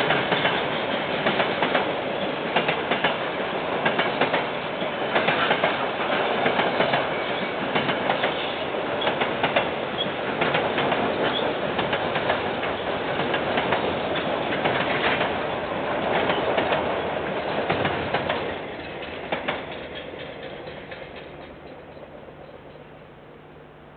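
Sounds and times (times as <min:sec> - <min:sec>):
train wheels clicking over rail joints: 0:00.0 - 0:22.9.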